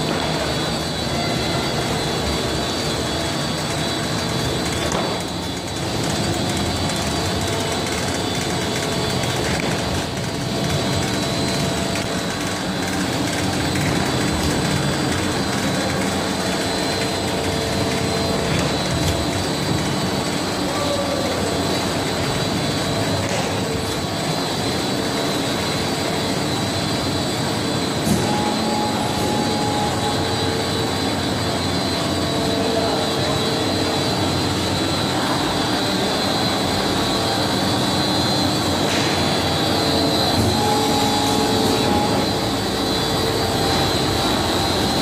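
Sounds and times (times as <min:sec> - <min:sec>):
veneer lathe whining: 0:00.0 - 0:45.0.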